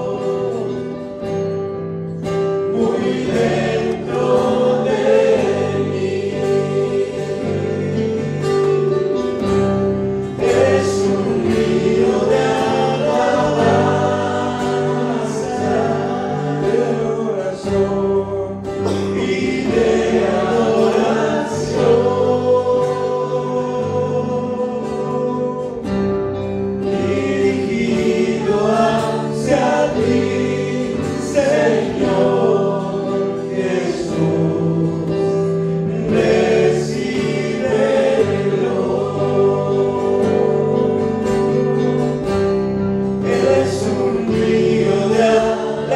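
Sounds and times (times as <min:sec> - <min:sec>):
choir singing worship song: 0:00.0 - 0:45.9
instrumental accompaniment: 0:00.0 - 0:45.9.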